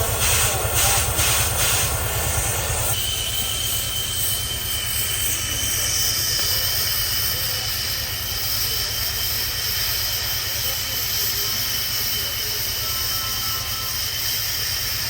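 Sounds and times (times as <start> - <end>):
bright hiss: 0.0 - 15.0
high cutting whine: 0.0 - 15.0.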